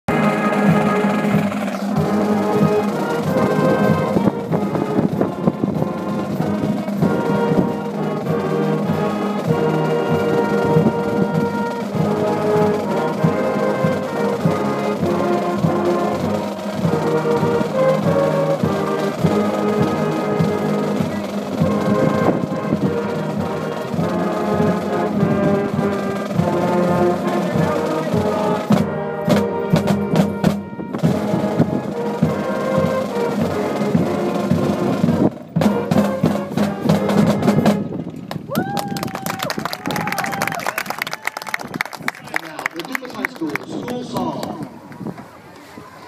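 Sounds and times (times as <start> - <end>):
brass band playing: 0.0 - 38.5
steady drums: 0.1 - 40.8.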